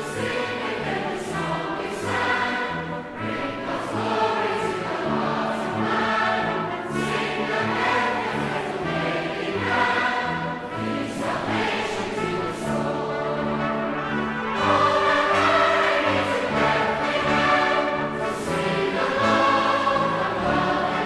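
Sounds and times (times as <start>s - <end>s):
choir singing: 0.0s - 21.0s
low accompanying notes: 0.0s - 21.0s.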